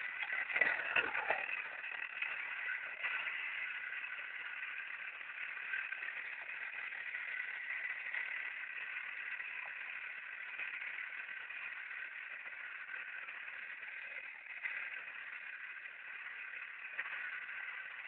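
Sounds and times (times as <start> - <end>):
small motor whining: 0.0 - 18.0.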